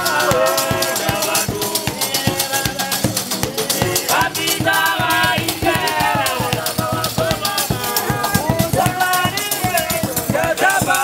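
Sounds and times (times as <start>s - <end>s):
drum beat: 0.0s - 11.0s
group singing: 0.0s - 11.0s
rattling percussion: 0.0s - 11.0s.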